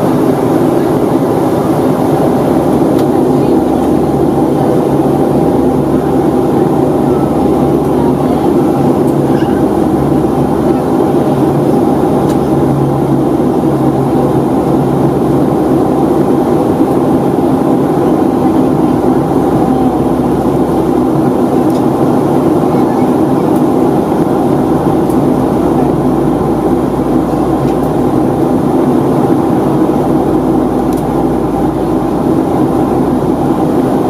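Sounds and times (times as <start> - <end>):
airflow rushing over fuselage: 0.0 - 34.0
jet engines droning: 0.0 - 34.0
low steady hum: 0.0 - 34.0.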